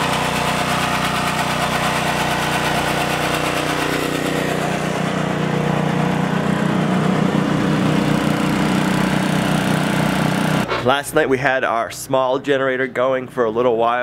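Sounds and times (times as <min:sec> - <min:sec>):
generator engine running: 0:00.0 - 0:12.5.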